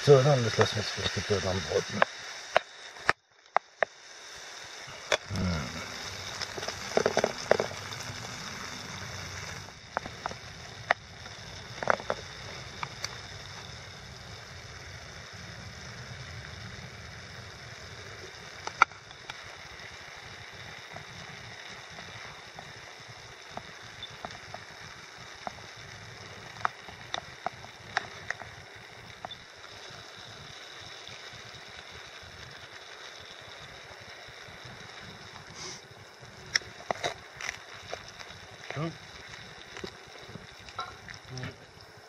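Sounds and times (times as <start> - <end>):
meat sizzling in a pan: 0.0 - 42.0.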